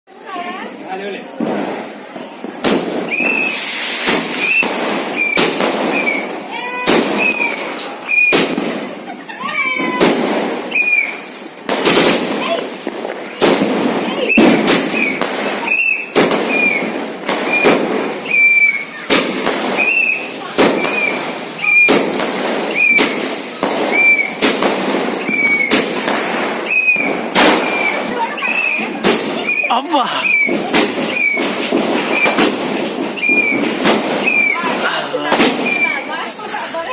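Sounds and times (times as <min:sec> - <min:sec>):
firework bangs: 0:00.1 - 0:36.9
firework whistles: 0:01.6 - 0:36.6.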